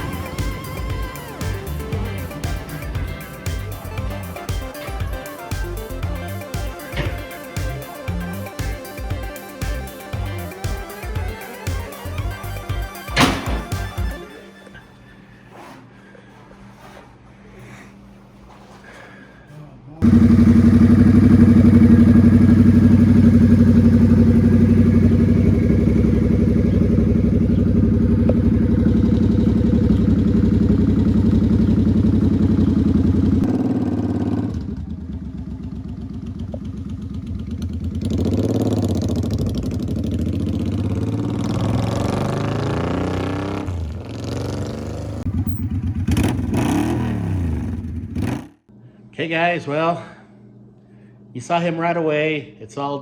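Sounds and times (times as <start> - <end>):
motorcycle engine revving: 0.0 - 14.2, 20.0 - 48.7.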